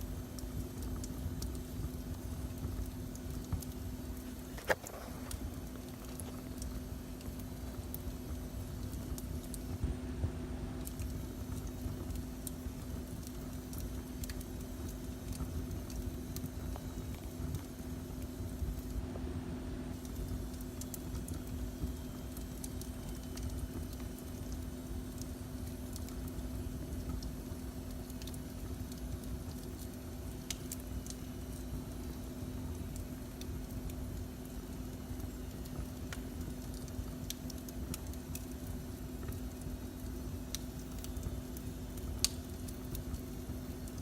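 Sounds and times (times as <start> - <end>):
steady low hum: 0.0 - 44.0
wood fire burning: 0.0 - 44.0.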